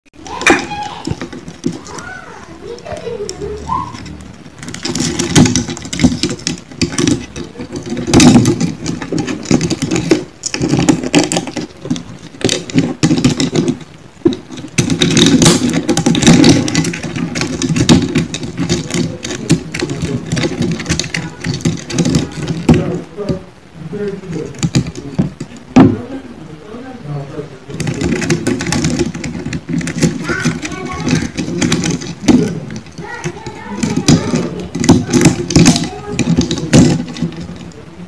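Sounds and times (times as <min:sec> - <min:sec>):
continuous low rattle: 0:00.1 - 0:38.0
beetles' shells clicking and scraping: 0:00.2 - 0:25.8, 0:27.7 - 0:38.0.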